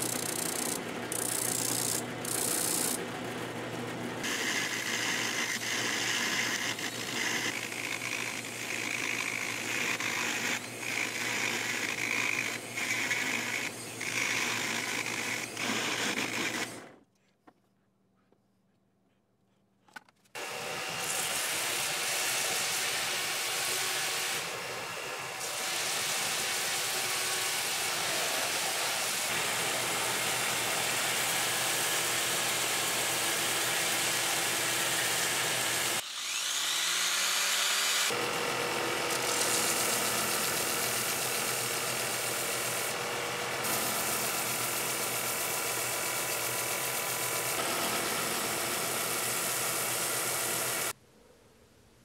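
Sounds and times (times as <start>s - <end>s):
belt sander running: 0.0s - 16.9s, 21.7s - 51.0s
drill press boring into wood: 0.0s - 17.0s, 20.4s - 50.9s.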